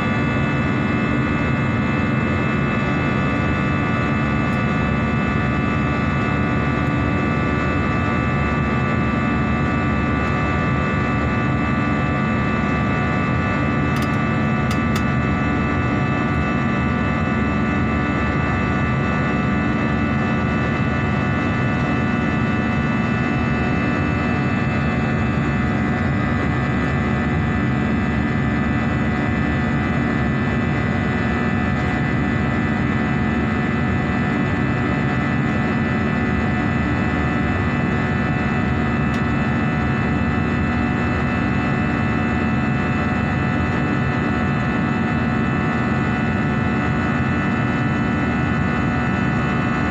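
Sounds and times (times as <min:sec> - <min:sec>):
airliner engines droning: 0:00.0 - 0:49.9.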